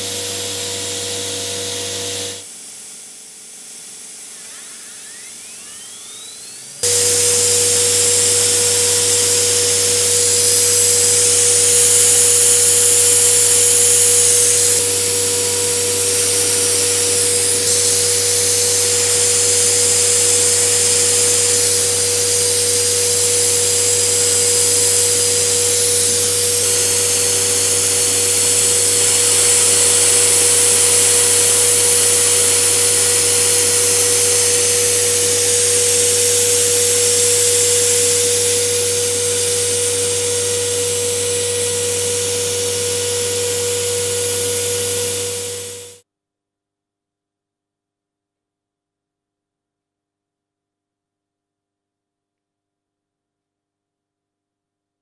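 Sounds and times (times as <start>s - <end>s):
router spindle whining: 0.0s - 2.5s, 4.1s - 46.0s
hiss of cutting acrylic: 0.0s - 46.0s.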